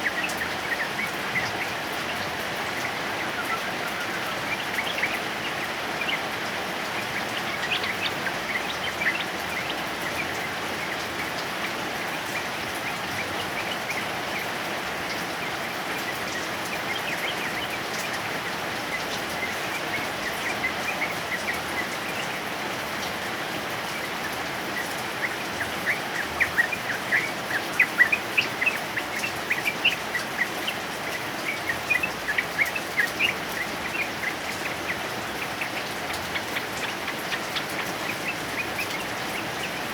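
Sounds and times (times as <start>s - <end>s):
bulbul singing: 0.0s - 39.9s
heavy rain: 0.0s - 39.9s.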